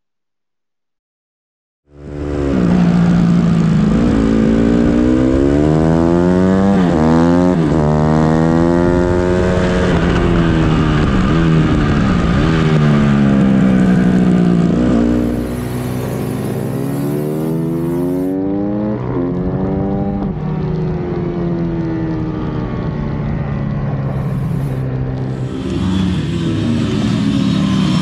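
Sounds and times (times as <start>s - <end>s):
motorbike engine at full throttle: 1.9s - 28.0s.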